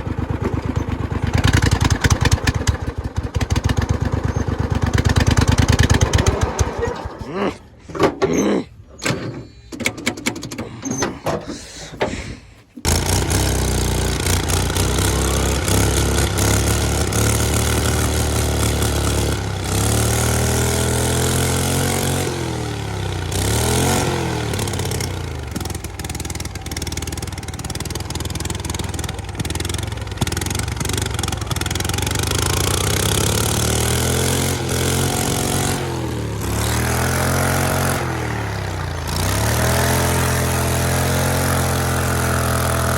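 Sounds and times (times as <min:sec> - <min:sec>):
lawnmower engine sputtering and running: 0:00.0 - 0:42.9.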